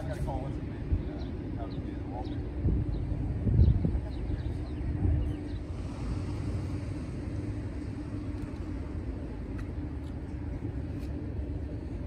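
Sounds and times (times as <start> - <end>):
constant low hum: 0.0 - 12.0
motor vehicles rumbling: 0.0 - 12.0.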